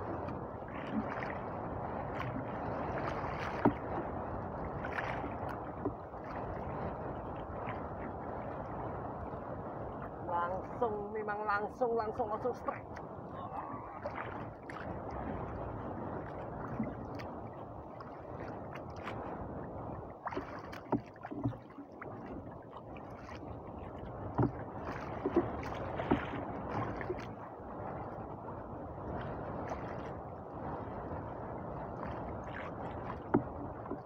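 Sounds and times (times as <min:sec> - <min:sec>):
water lapping against boat hull: 0:00.0 - 0:34.0
waves: 0:00.0 - 0:34.0
wind: 0:00.0 - 0:34.0.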